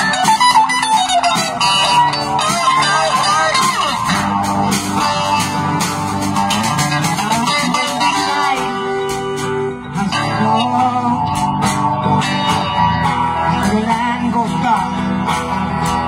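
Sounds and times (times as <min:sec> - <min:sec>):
acoustic guitar: 0:00.0 - 0:16.0
electric guitar: 0:00.0 - 0:16.0.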